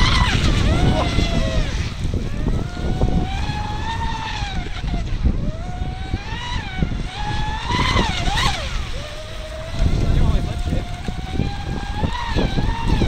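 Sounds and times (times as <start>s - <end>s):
electric motor whining: 0.0s - 13.0s
wind rumble on microphone: 0.0s - 13.0s.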